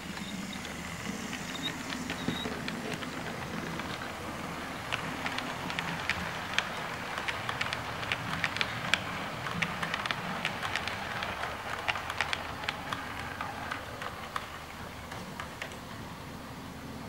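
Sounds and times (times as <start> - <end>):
model train rolling rumble: 0.0 - 17.0
wheels clicking over rail joints: 0.0 - 17.0.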